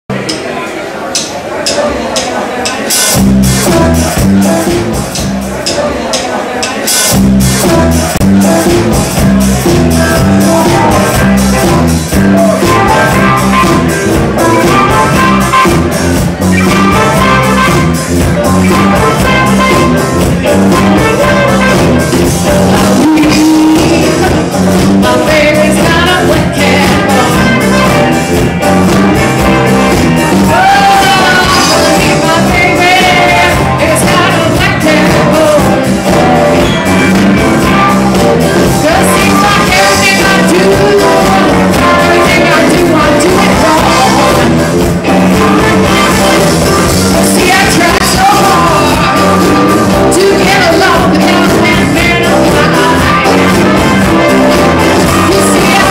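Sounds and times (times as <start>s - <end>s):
drum kit: 0.1s - 55.9s
person singing: 1.2s - 55.9s
electric guitar: 7.1s - 55.9s
trumpet: 10.2s - 24.3s, 25.3s - 55.9s.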